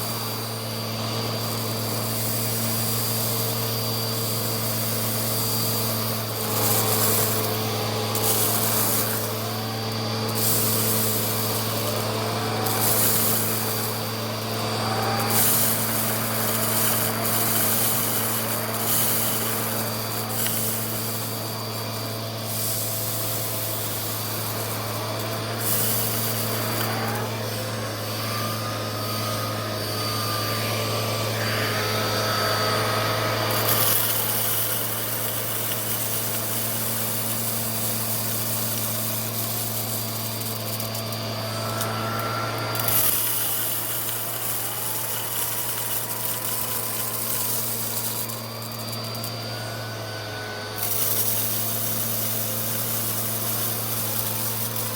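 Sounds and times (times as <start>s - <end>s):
vacuum cleaner running: 0.0s - 54.9s
vacuum sucking up rice: 0.0s - 54.9s.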